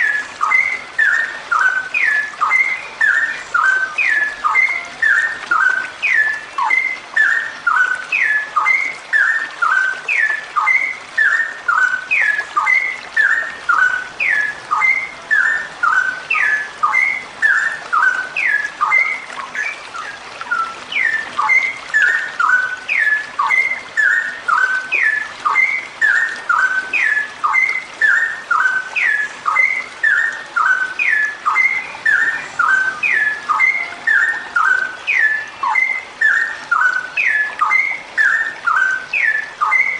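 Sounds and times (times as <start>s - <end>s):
bird whistling calls: 0.0s - 39.9s.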